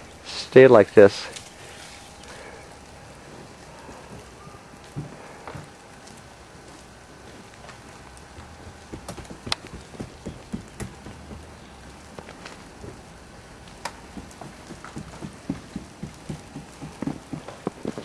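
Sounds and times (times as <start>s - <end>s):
melting snow dripping: 0.0s - 18.0s.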